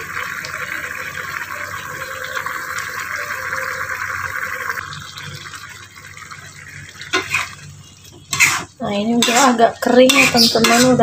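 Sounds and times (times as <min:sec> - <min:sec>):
sauce bubbling in a wok: 0:00.0 - 0:11.0.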